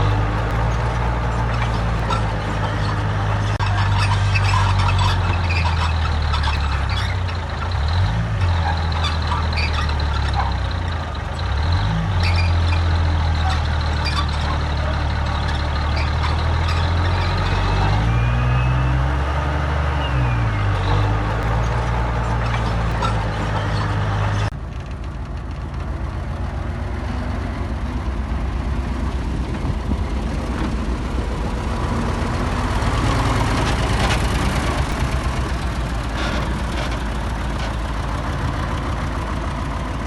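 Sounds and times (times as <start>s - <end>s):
heavy diesel engine under load: 0.0s - 40.0s.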